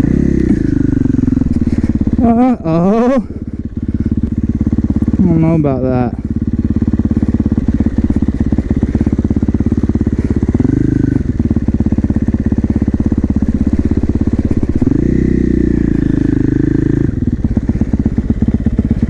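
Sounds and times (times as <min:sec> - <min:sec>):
motorcycle engine chugging and revving: 0:00.0 - 0:19.0.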